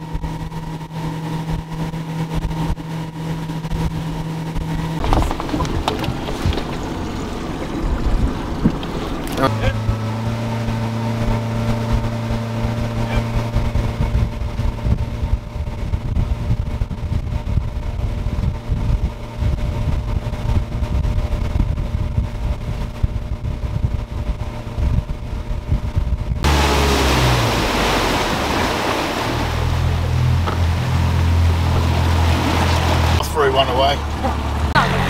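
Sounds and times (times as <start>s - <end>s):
outboard motor running: 0.0s - 35.0s
wake rushing: 0.0s - 35.0s
wind buffeting microphone: 0.0s - 35.0s.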